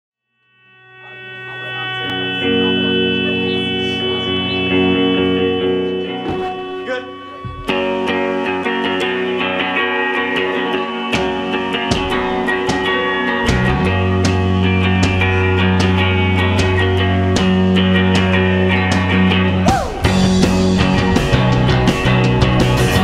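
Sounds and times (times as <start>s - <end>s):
electric guitar chords: 0.4s - 23.0s
rock band playing live: 2.1s - 23.0s.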